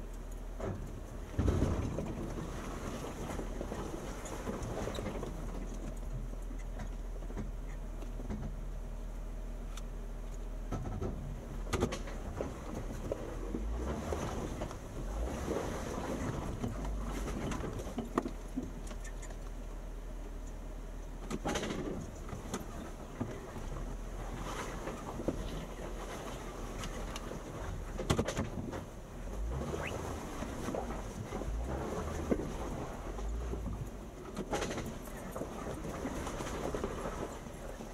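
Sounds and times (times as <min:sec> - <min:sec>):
car driving rumble: 0:00.0 - 0:37.9.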